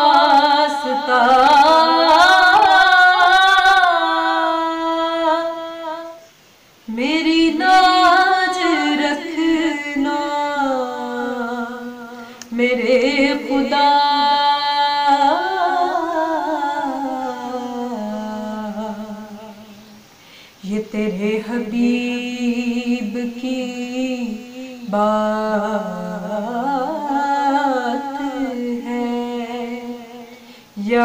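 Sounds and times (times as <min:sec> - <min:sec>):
woman singing unaccompanied: 0:00.0 - 0:31.0.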